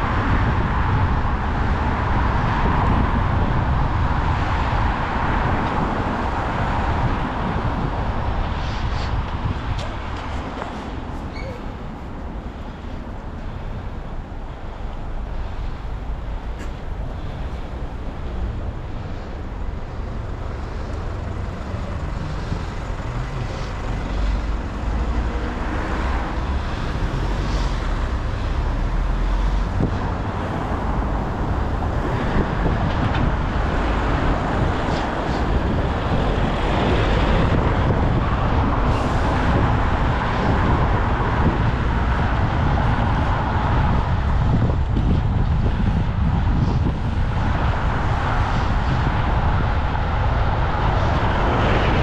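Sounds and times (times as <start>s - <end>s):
road traffic: 0.0s - 52.0s
wind rumbling on microphone: 0.0s - 52.0s.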